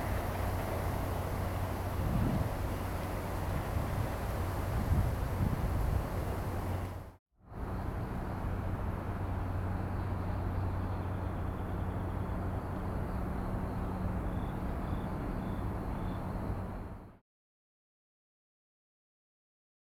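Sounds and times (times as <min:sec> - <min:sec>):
low mechanical hum: 0:00.0 - 0:17.2.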